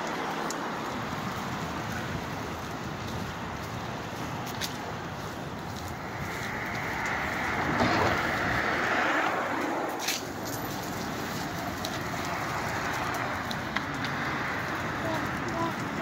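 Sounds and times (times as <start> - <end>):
car tyres hissing on wet road: 0.0 - 16.0
traffic noise: 0.0 - 16.0.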